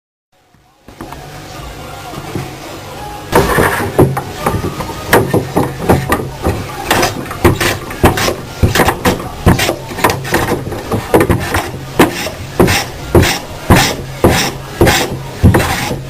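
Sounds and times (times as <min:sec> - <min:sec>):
low machine hum: 0:00.4 - 0:16.0.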